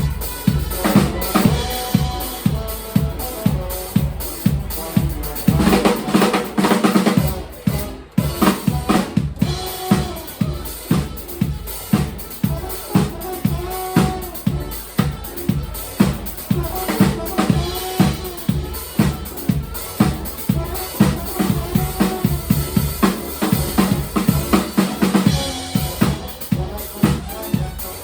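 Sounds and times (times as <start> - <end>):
drum kit beat: 0.0 - 28.0
live band music: 0.0 - 28.0.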